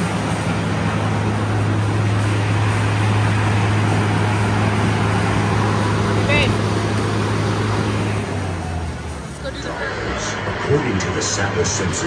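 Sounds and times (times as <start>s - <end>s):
large fan machinery running: 0.0s - 12.0s.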